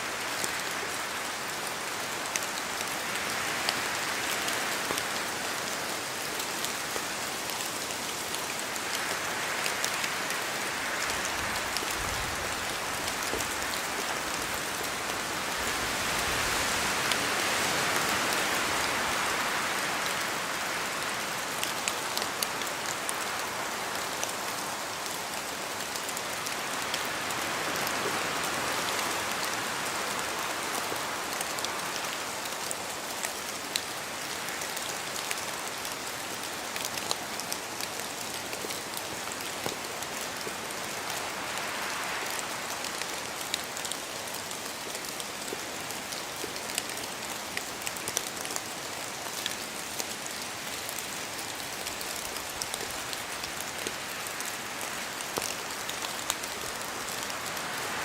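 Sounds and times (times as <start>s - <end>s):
steady rain in forest: 0.0s - 58.0s.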